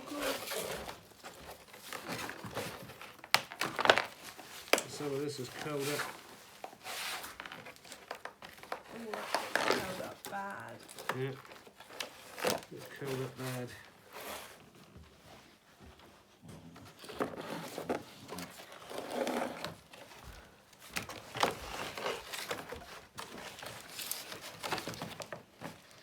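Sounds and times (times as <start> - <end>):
birch bark crackling and rustling: 0.0 - 14.6, 17.0 - 26.0.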